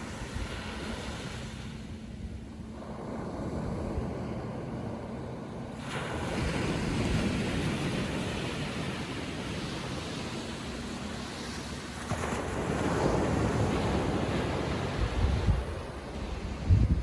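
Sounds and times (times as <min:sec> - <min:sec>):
small waves washing on sand: 0:00.0 - 0:17.0
wind buffeting microphone: 0:02.0 - 0:17.0.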